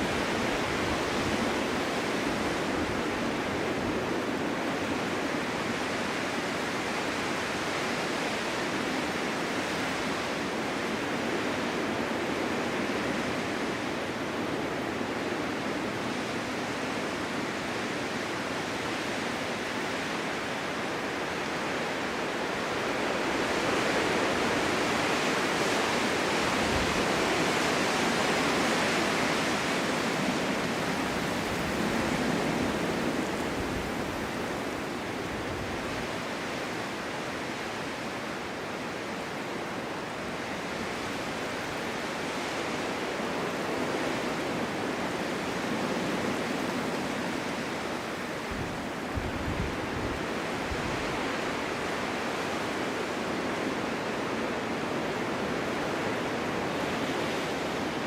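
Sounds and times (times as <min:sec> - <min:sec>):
wind rushing through forest: 0:00.0 - 0:58.0.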